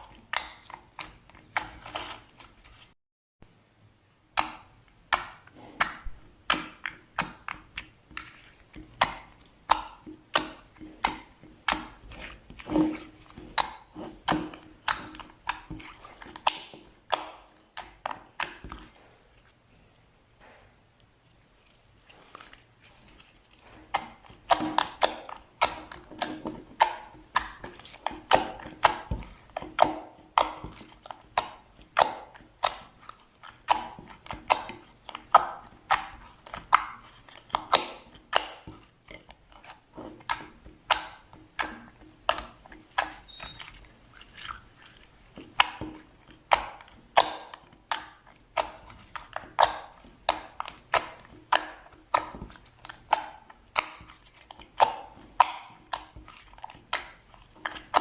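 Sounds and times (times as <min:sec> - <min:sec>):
slime clicking and popping: 0:00.1 - 0:02.2, 0:04.4 - 0:18.8, 0:23.7 - 0:58.0.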